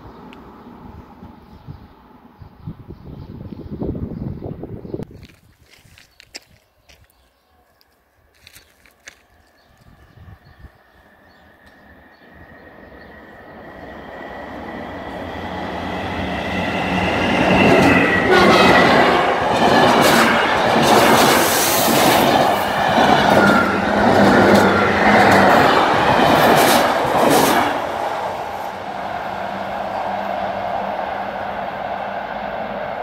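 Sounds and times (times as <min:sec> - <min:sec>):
electric train passing: 0:00.0 - 0:04.7, 0:09.7 - 0:33.0.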